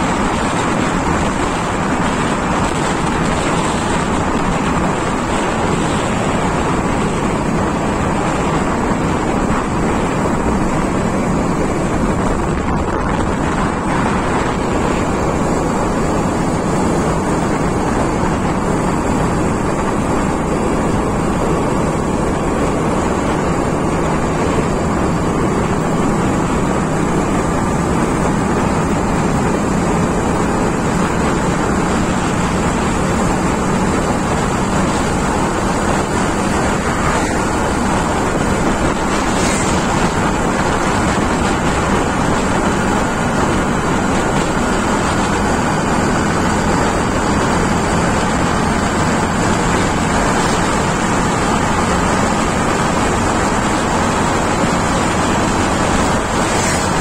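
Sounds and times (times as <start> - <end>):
vehicle road noise on asphalt: 0.0 - 57.0
wind on microphone: 0.0 - 57.0.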